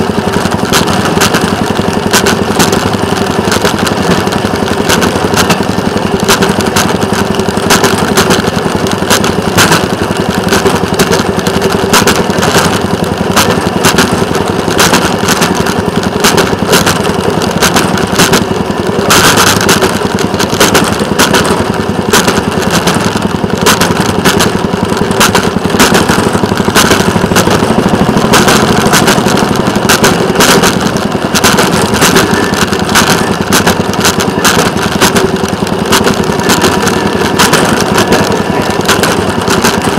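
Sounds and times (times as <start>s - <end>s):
rail vehicle engine running: 0.0s - 39.9s.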